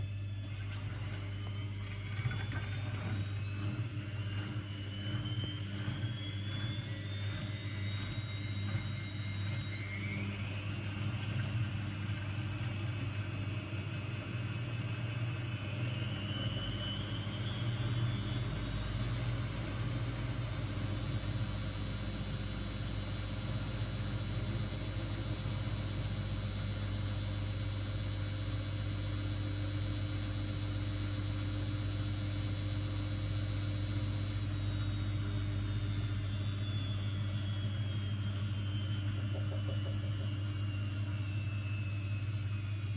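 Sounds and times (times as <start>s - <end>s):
washing machine motor whine: 0.0s - 42.9s.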